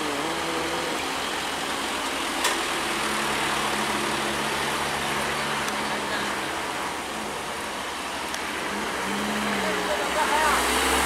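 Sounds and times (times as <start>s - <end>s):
diesel truck engines running: 0.0s - 11.0s.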